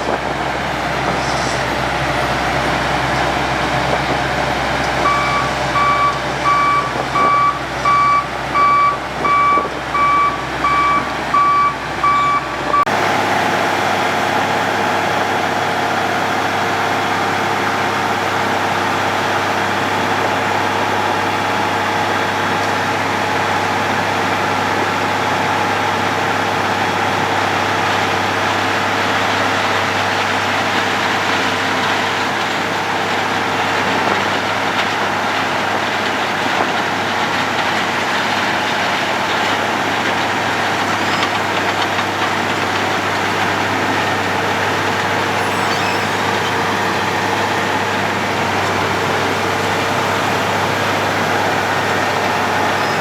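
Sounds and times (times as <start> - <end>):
road planer engine drone: 0.0 - 53.0.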